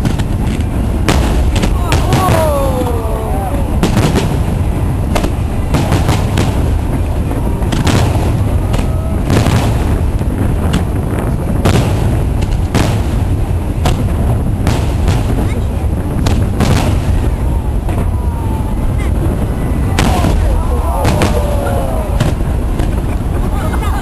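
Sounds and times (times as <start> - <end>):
fireworks bangs: 0.0 - 24.0
low rumble: 0.0 - 24.0.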